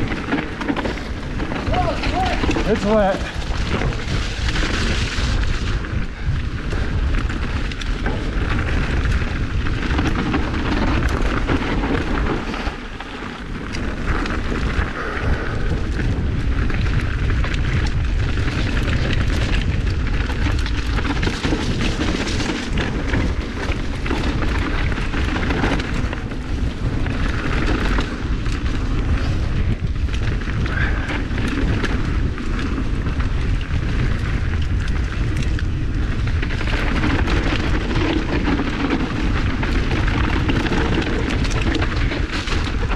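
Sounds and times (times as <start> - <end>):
bike knocks and rattles: 0.0 - 42.9
bike tyre noise: 0.0 - 42.9
wind rumble on microphone: 0.0 - 42.9.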